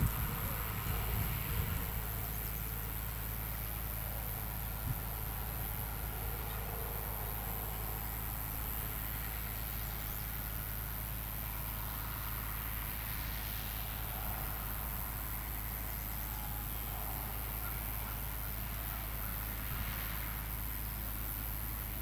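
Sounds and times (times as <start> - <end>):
steady hiss: 0.0 - 22.0
tractor diesel engine running: 0.0 - 22.0.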